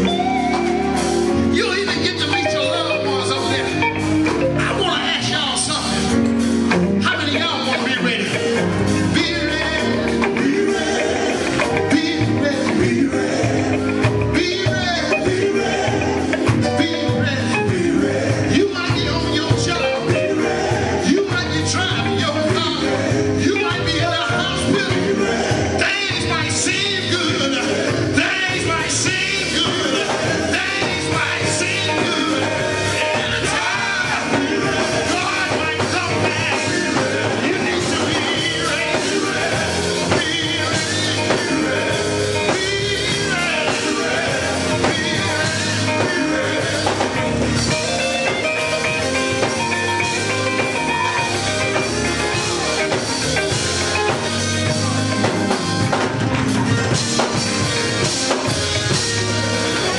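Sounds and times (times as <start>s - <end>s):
drums: 0.0s - 59.9s
electric guitar: 0.0s - 59.9s
gospel vocal group singing: 0.0s - 59.9s.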